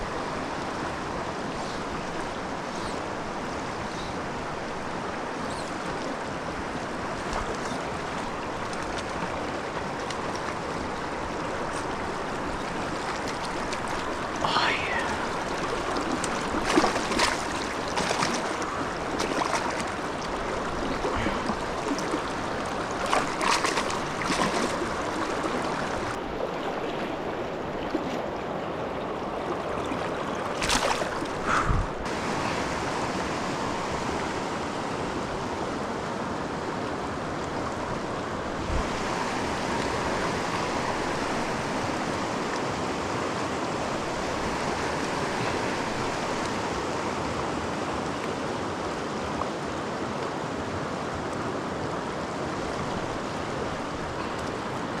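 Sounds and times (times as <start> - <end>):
mountain stream running: 0.0 - 55.0.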